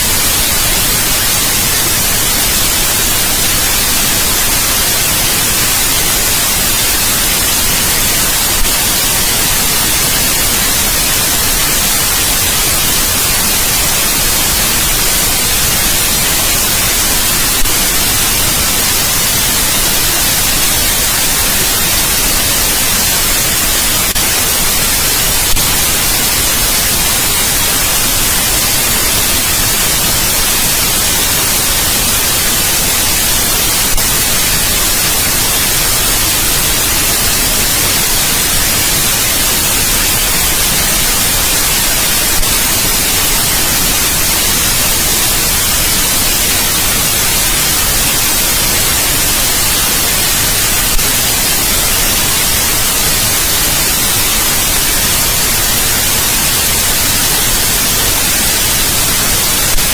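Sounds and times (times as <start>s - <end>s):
loud white noise hiss: 0.0s - 59.9s.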